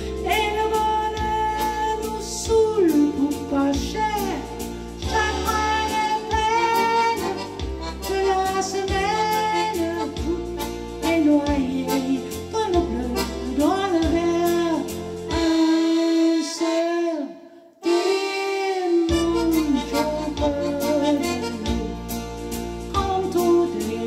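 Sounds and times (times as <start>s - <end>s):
woman singing into microphone: 0.0s - 22.2s, 22.9s - 24.0s
electronic keyboard: 0.0s - 24.0s.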